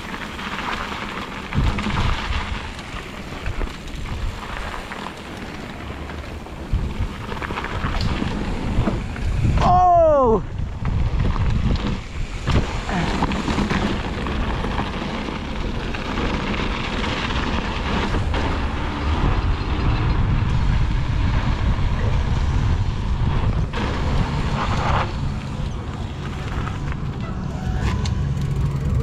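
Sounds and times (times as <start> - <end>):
wind rushing over microphone: 0.0 - 4.9, 5.6 - 29.0
mountain bike rattling over dirt trail: 0.0 - 29.0.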